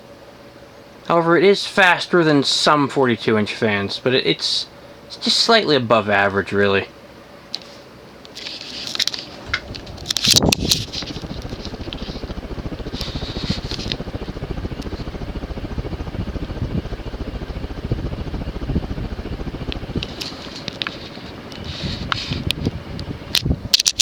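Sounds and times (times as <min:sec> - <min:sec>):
ceiling fan pulsing: 0:00.0 - 0:24.0.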